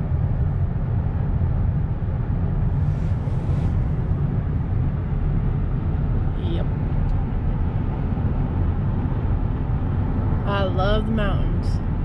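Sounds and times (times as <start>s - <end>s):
road and engine rumble in truck cab: 0.0s - 12.0s.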